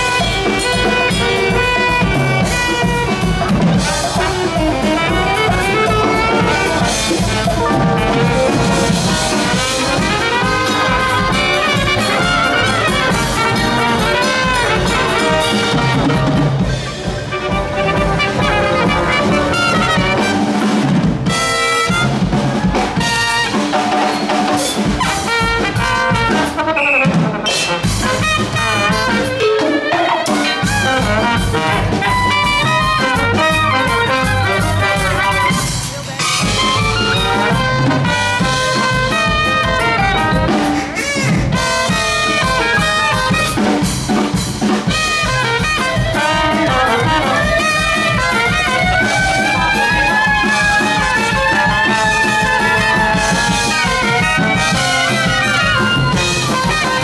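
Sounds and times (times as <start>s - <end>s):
drum kit: 0.0s - 57.0s
upbeat brass music: 0.0s - 57.0s.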